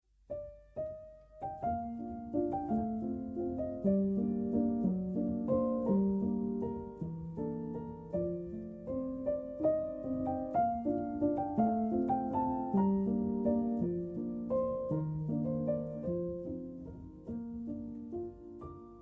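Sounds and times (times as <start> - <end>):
slow gentle piano music: 0.1 - 19.0.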